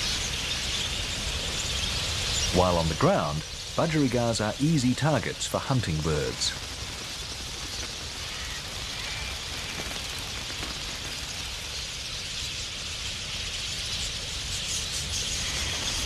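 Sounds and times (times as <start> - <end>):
flock of budgerigars chattering: 0.0 - 16.0.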